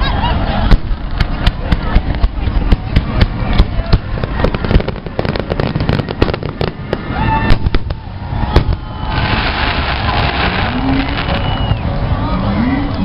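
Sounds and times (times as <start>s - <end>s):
fireworks bangs and crackles: 0.0s - 12.2s.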